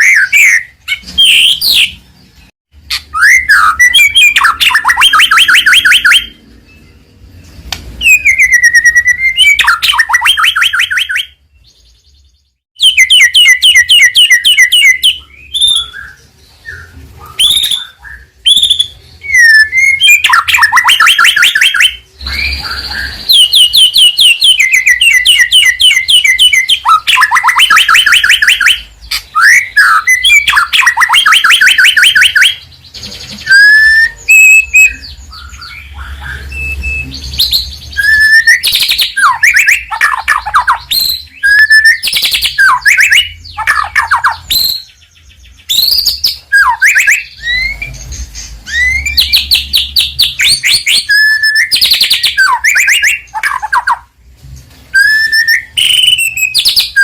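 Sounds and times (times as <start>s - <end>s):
songbird singing trills and whistles: 0.0s - 54.2s, 54.8s - 57.0s.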